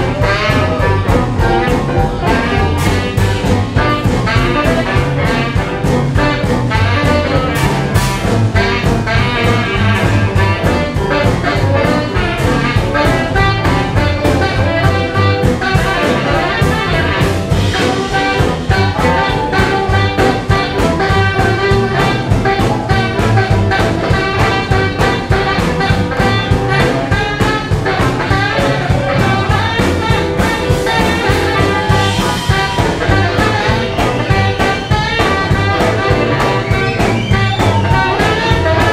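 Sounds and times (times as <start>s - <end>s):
jump blues band playing: 0.0s - 38.9s
tenor saxophone lead: 0.0s - 38.9s.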